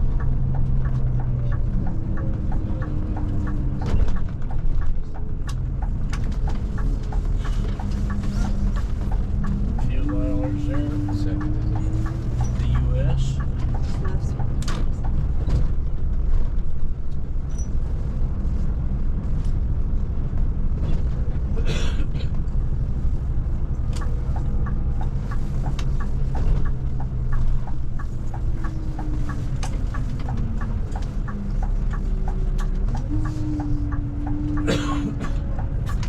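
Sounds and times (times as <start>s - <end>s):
regular ticking: 0.0s - 15.4s, 22.5s - 36.0s
engine and road rumble: 0.0s - 36.0s.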